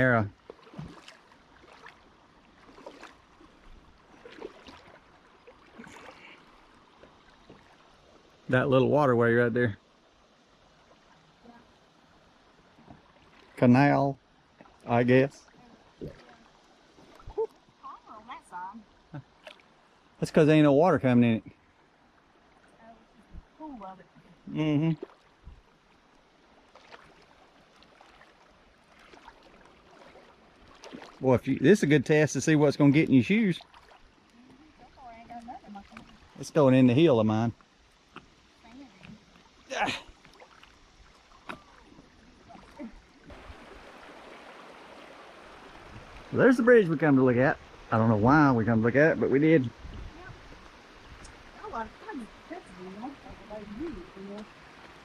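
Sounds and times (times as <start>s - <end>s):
river water trickling and splashing: 0.0s - 55.0s
soft wading steps: 0.0s - 55.0s.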